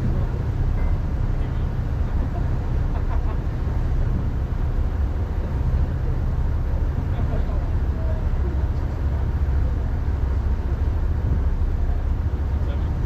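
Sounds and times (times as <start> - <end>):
ferry engines droning: 0.0 - 13.0
rushing water haze: 0.0 - 13.0.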